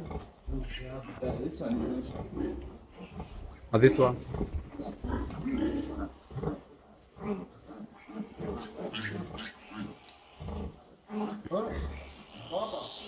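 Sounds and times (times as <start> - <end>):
piglets squealing and grunting: 0.0 - 13.0.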